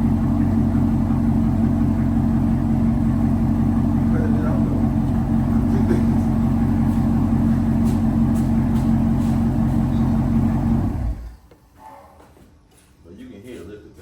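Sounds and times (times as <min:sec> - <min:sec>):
car exhaust running: 0:00.0 - 0:11.4.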